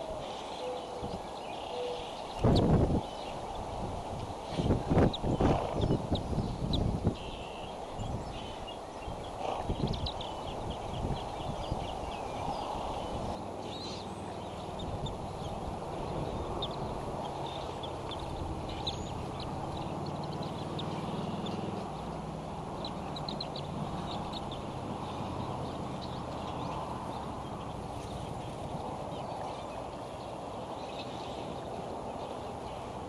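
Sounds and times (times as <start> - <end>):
birds chirping: 0.0 - 33.0
low wind rumble: 0.0 - 33.0.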